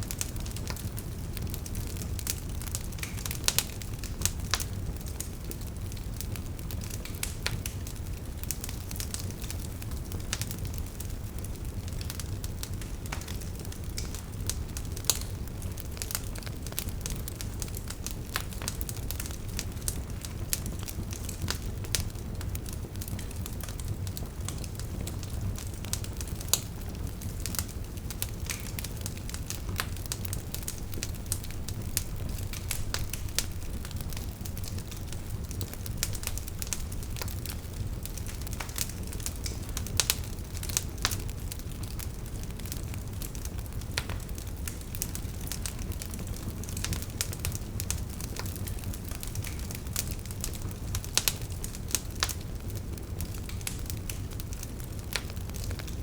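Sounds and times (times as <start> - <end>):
logs crackling and popping: 0.0 - 56.0
wood fire rumbling: 0.0 - 56.0.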